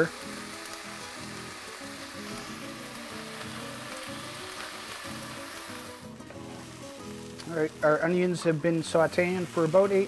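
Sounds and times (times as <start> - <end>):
background music of held notes: 0.0 - 10.0
onions sizzling in oil: 0.0 - 10.0.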